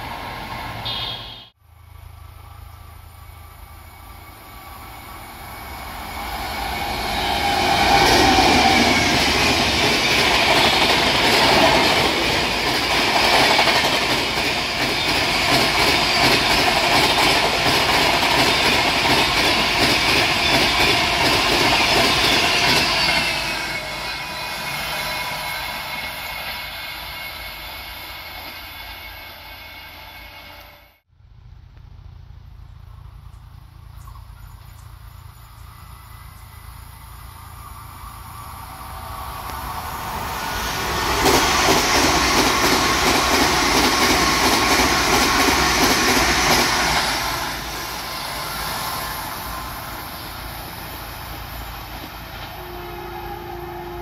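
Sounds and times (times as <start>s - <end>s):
express train passing: 0.0s - 31.1s, 32.4s - 54.0s.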